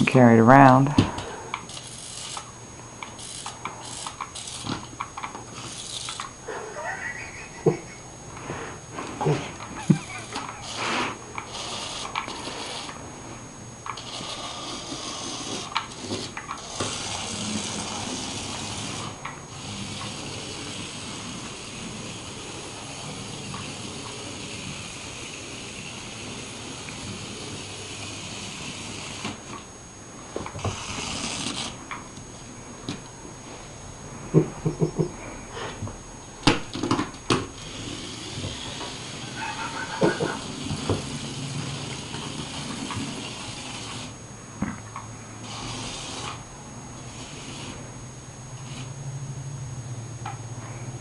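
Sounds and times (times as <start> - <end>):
small electric motor whirring: 1.2 - 32.4, 36.5 - 44.2, 44.9 - 49.1.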